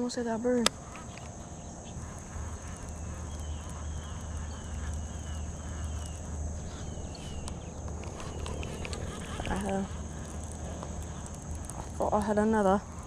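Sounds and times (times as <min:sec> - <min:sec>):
fishing reel whirring: 0:00.0 - 0:13.0.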